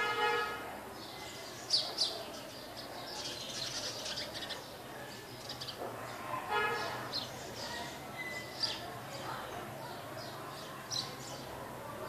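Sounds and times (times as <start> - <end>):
small birds chirping: 1.0 - 12.0.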